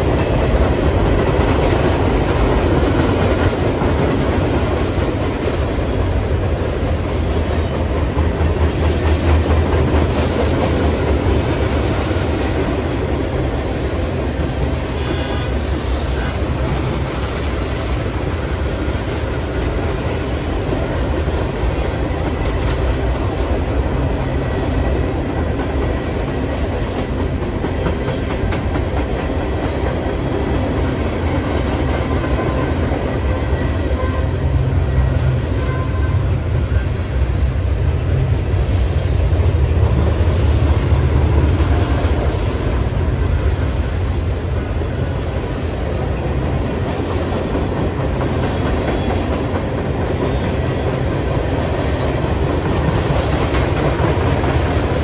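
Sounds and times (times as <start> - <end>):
freight train rumbling over rails: 0.0 - 55.0.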